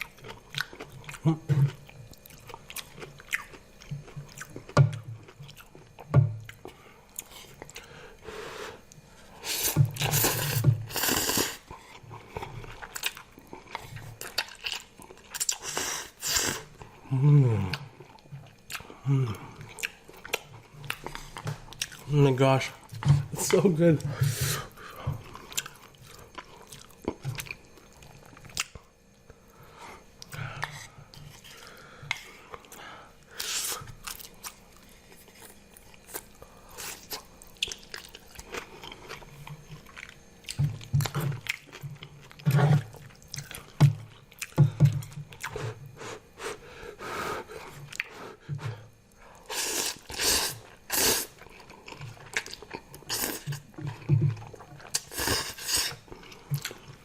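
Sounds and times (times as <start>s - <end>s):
close chewing and crunching: 0.0s - 8.2s, 8.8s - 46.6s, 47.4s - 57.0s.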